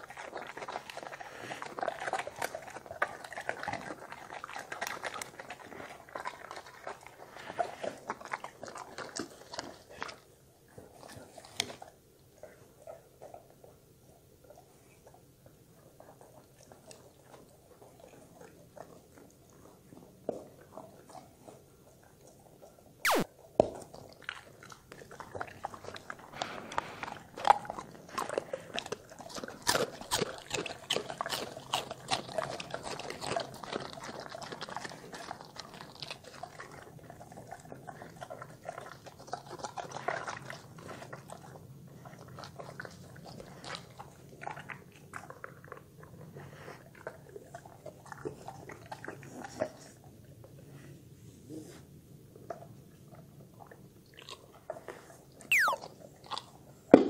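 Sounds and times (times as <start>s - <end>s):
dogs crunching vegetables: 0.0s - 50.9s, 52.3s - 57.0s.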